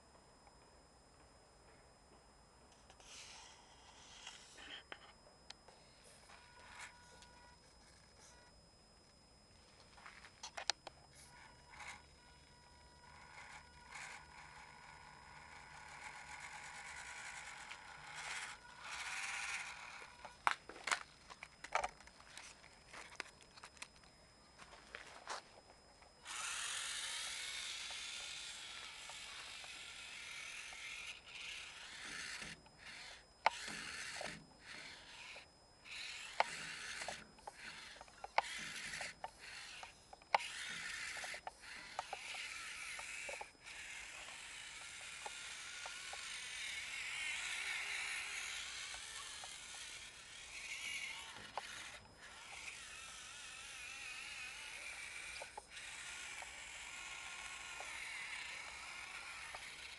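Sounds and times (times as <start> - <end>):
toy truck electric motor whining: 2.7 - 24.0, 24.6 - 59.9.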